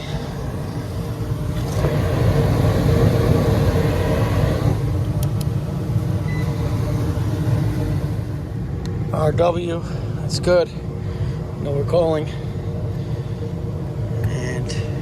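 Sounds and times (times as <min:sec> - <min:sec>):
motor running with low rumble: 0:00.0 - 0:15.0.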